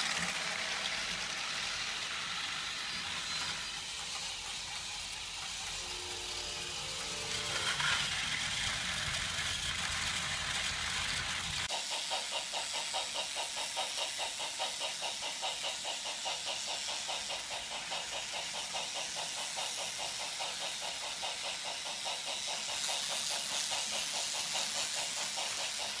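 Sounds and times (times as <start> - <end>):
toy train motor rattling: 0.0 - 26.0.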